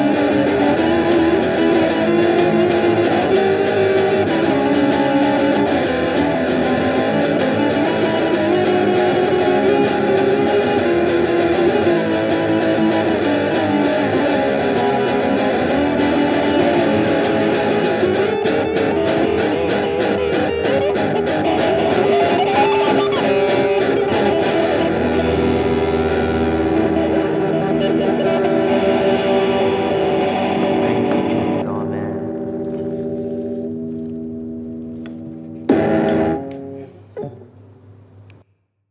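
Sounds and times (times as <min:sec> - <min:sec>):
guitar music with steady beat: 0:00.0 - 0:38.5.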